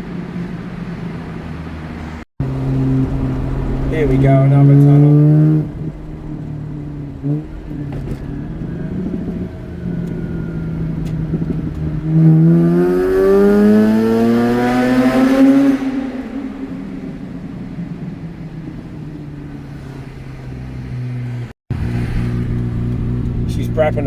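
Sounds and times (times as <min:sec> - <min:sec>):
rotary engine revving in a tunnel: 0:00.0 - 0:24.0.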